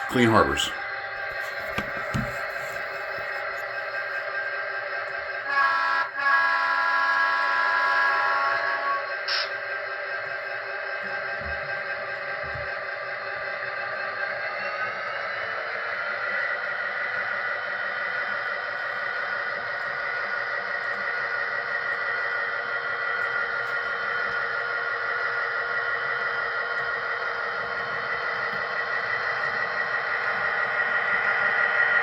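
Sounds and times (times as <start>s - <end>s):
model train engine sound drone: 0.0s - 32.0s.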